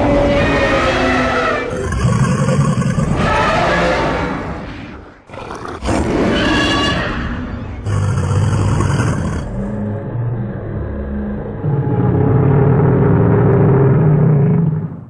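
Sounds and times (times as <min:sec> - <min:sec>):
monster roar: 0:00.0 - 0:06.6, 0:07.8 - 0:15.0.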